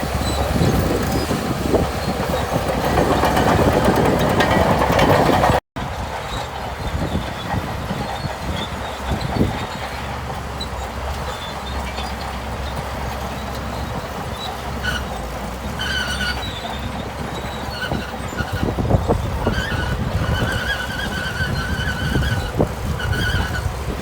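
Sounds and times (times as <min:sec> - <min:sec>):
bulldozer diesel engine running: 0:00.0 - 0:24.0
steel tracks squealing: 0:00.0 - 0:24.0
track links clanking: 0:00.0 - 0:24.0.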